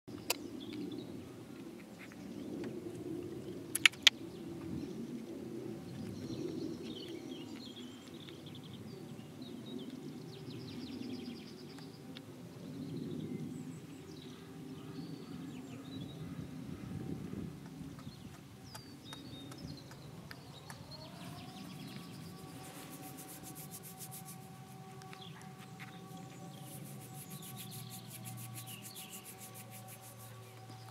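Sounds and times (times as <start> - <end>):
faint birds chirping: 5.9 - 30.9.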